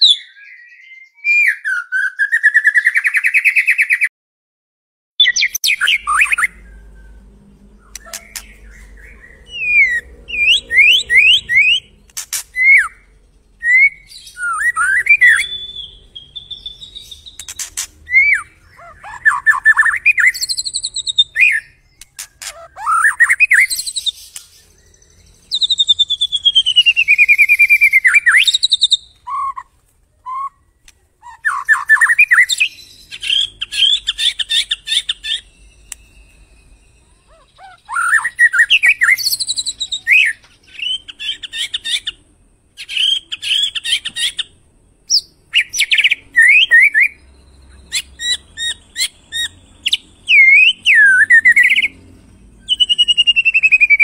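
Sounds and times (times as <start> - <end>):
bird singing varied whistled song: 0.0 - 4.1, 5.2 - 54.0.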